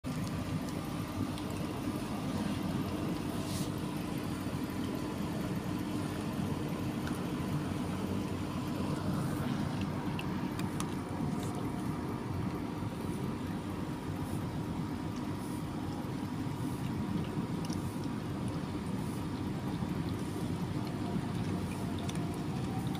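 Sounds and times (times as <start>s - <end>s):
low mechanical hum: 0.0s - 22.9s.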